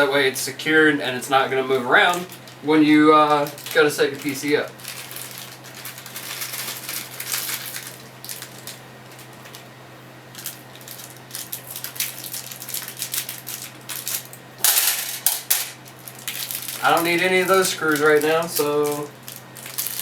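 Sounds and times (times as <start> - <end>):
steady low hum: 0.0 - 20.0
plastic bag rustling: 1.7 - 20.0.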